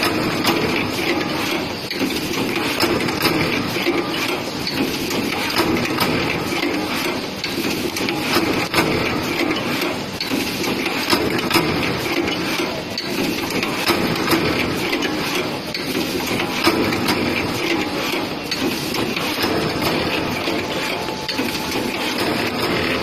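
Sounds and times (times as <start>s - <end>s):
binding machine clattering: 0.0s - 23.0s.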